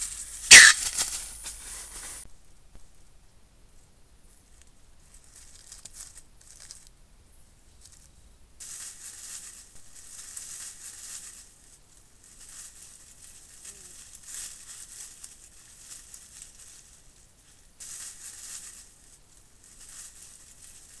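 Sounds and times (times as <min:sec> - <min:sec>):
dry grass and leaves rustling: 0:00.0 - 0:02.3, 0:03.7 - 0:21.0.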